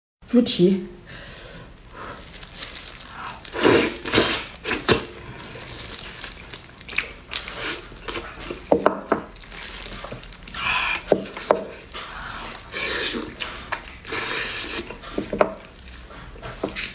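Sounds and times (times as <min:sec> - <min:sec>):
wet chewing and lip smacking: 0:01.8 - 0:08.7, 0:09.3 - 0:16.9.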